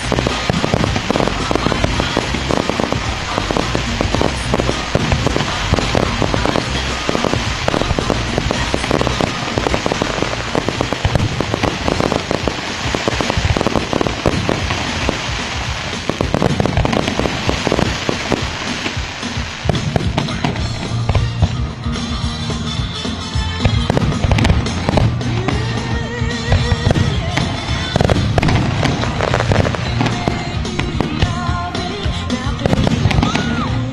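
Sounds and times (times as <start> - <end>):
firework shells bursting: 0.0 - 22.2, 23.6 - 33.5
fireworks crackling pops: 0.0 - 33.9.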